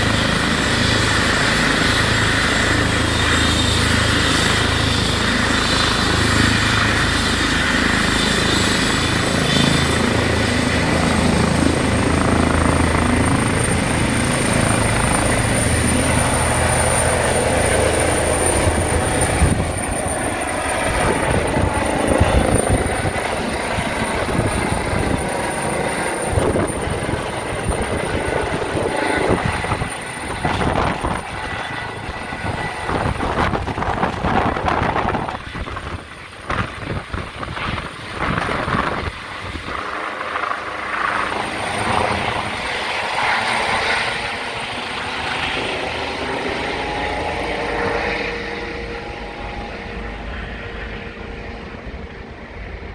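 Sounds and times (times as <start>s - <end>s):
helicopter rotor: 0.0s - 52.9s
helicopter turbine whine: 0.0s - 52.9s.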